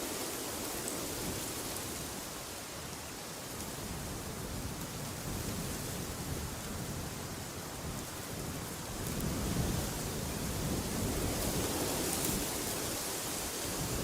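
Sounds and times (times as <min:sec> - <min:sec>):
rushing wind: 0:00.0 - 0:14.0.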